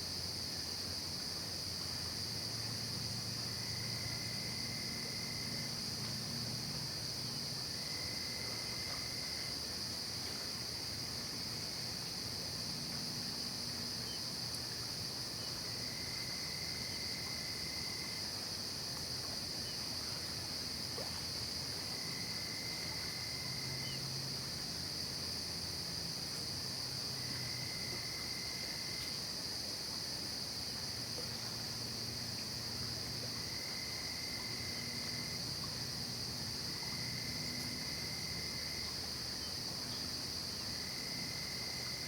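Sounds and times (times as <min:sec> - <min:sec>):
crickets trilling: 0:00.0 - 0:42.0
lower insect trill: 0:00.0 - 0:42.0.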